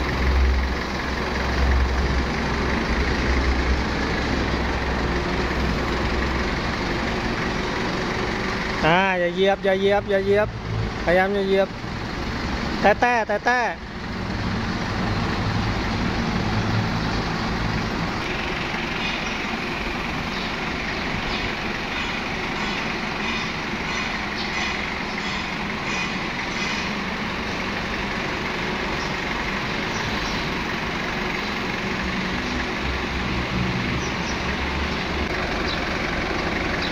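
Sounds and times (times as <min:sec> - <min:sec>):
forklift engine running: 0:00.0 - 0:36.9.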